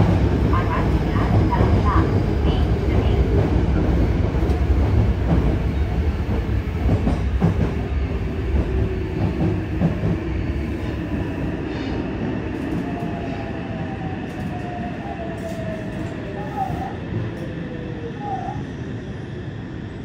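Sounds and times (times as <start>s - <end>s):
train wheels rumbling on rail: 0.0s - 19.7s.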